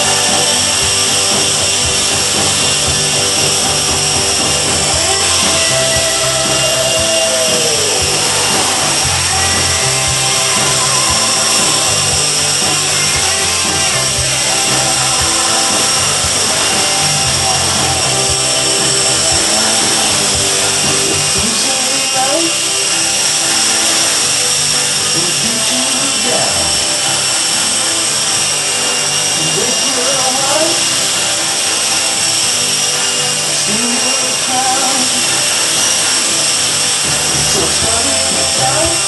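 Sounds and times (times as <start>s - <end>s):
rc helicopter rotors whining: 0.0s - 39.0s.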